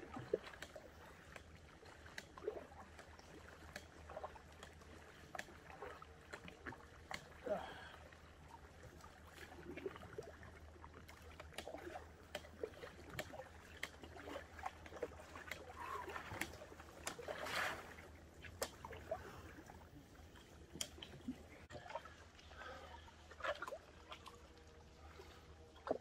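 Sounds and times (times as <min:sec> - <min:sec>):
paddle splashing in water: 0:00.0 - 0:26.0.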